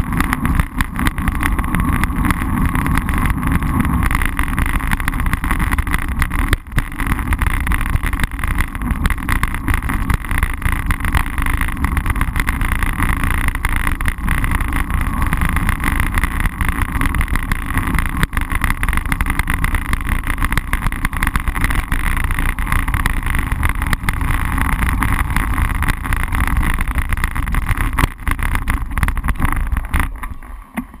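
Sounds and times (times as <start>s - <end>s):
bicycle road rumble: 0.0s - 31.0s.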